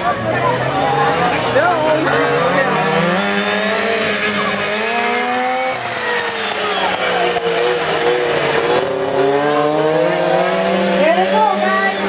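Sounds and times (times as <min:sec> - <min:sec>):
racing lawn mower engines: 0:00.0 - 0:12.0.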